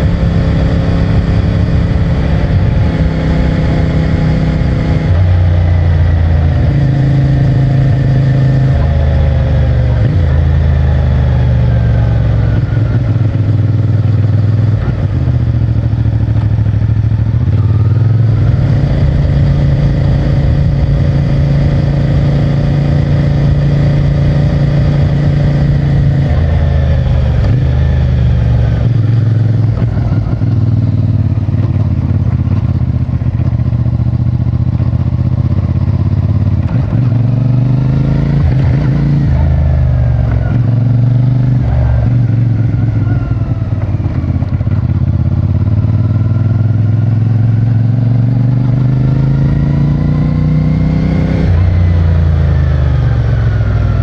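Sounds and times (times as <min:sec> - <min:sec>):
motorcycle engine riding along: 0:00.0 - 0:54.0.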